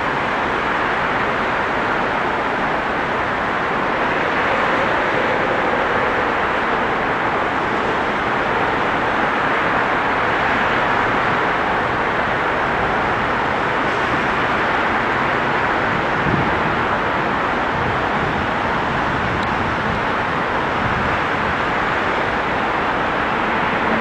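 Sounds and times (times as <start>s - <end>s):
city traffic roar: 0.0s - 24.0s
distant train approaching: 0.0s - 24.0s.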